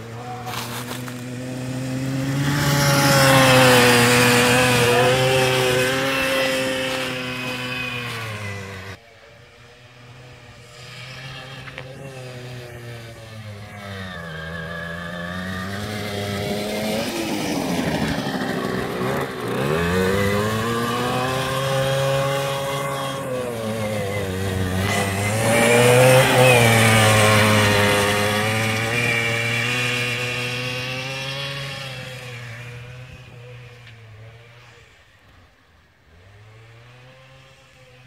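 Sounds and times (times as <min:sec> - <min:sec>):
small engine revving: 0:00.0 - 0:38.0.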